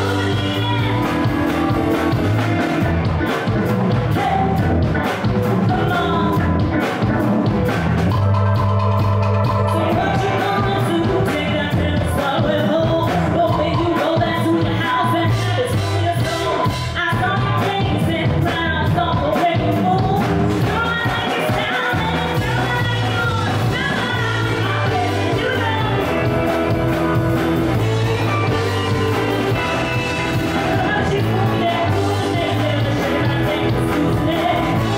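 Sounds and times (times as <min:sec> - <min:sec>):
woman singing: 0:00.0 - 0:06.8, 0:09.7 - 0:34.9
funk band playing: 0:00.0 - 0:34.9.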